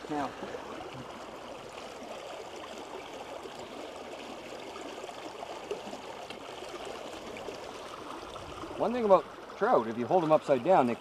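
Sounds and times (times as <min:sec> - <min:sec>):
creek water running over stones: 0:00.0 - 0:11.0.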